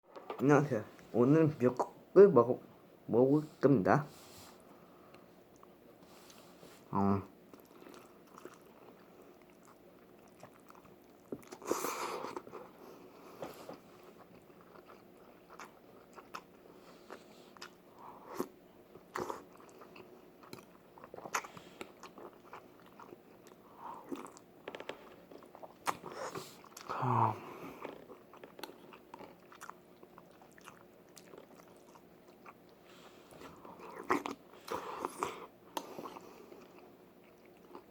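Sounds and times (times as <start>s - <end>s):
person chewing and eating: 7.4s - 37.9s.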